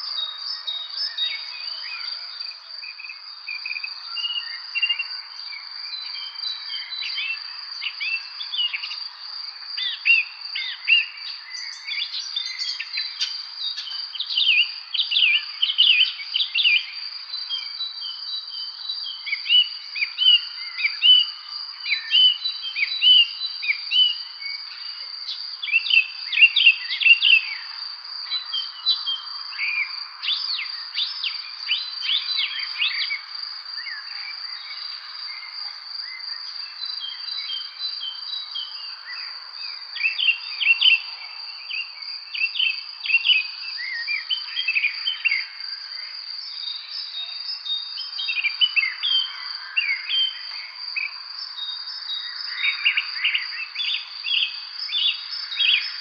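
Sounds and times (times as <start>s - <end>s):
insect trill: 0.0s - 56.0s
songbirds chirping and singing: 0.0s - 56.0s.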